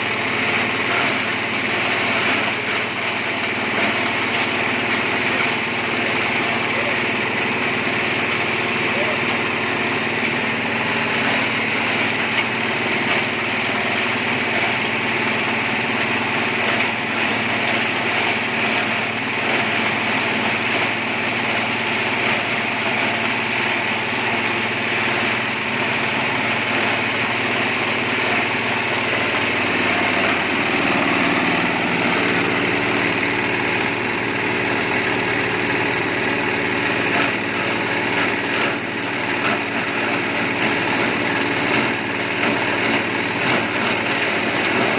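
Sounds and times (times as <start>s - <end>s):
garden shredder running: 0.0s - 44.9s.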